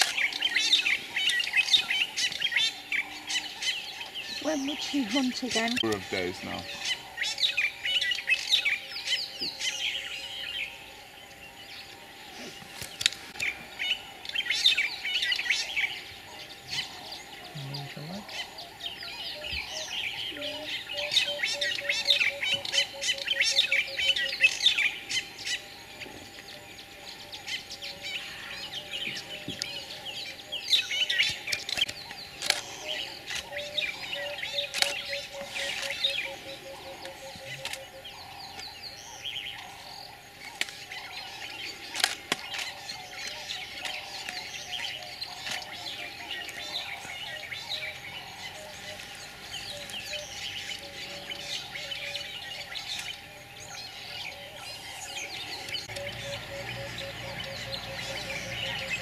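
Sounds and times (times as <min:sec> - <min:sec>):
wild birds singing and chirping: 0:00.0 - 0:59.0.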